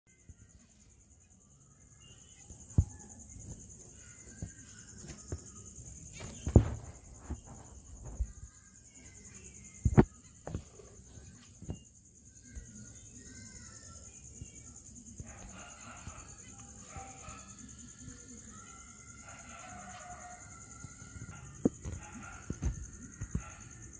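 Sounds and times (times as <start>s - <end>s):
high cricket-like trill: 0.1s - 23.9s.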